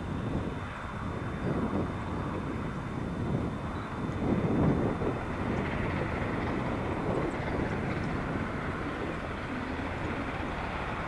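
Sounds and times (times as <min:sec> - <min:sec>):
distant steam locomotive rumble: 0:00.0 - 0:11.0.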